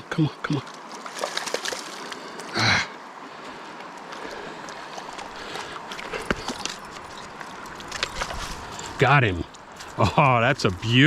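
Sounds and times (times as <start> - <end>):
river water rushing: 0.6 - 10.4.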